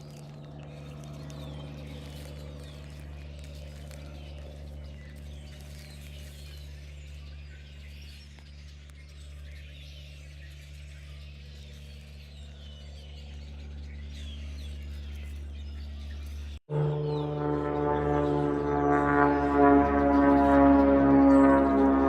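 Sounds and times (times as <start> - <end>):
airplane drone overhead: 0.0 - 22.0
birds chirping: 0.0 - 22.0.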